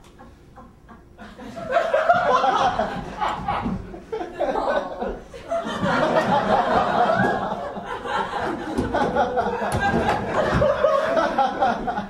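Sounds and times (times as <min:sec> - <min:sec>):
audience laughing: 0:00.1 - 0:12.0.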